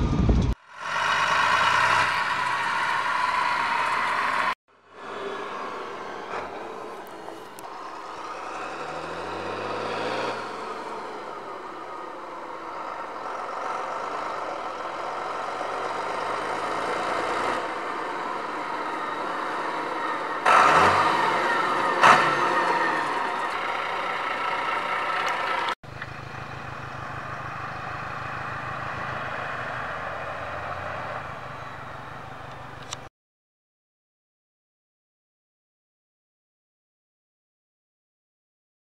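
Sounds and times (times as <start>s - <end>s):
tractor diesel engine accelerating: 0.0s - 33.1s.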